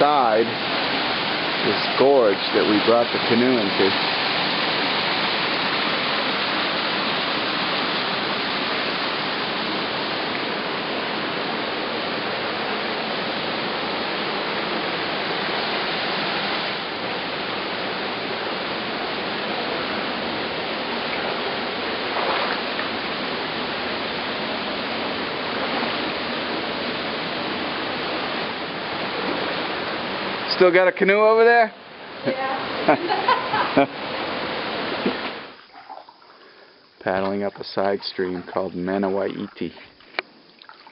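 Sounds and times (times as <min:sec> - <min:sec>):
stream water rushing over rocks: 0:00.0 - 0:40.9.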